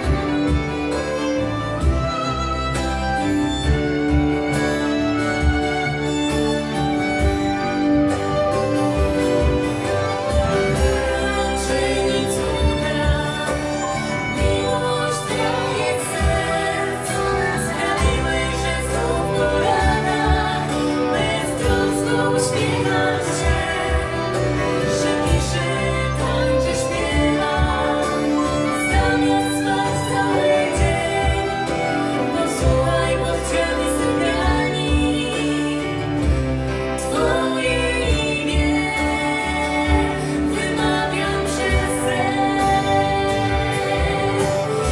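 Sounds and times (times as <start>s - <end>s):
live band playing: 0.0s - 44.9s
person singing: 0.0s - 44.9s.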